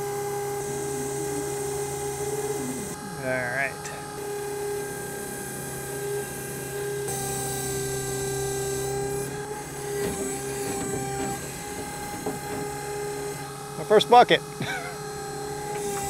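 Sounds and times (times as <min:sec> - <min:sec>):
electric excavator motor whining: 0:00.0 - 0:16.0.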